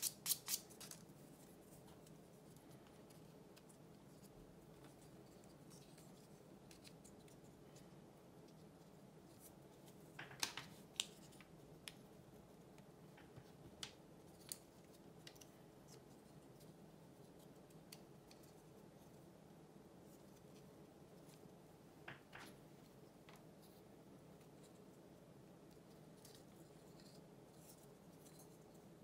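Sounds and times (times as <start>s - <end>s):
low steady room hum: 0.0s - 29.0s.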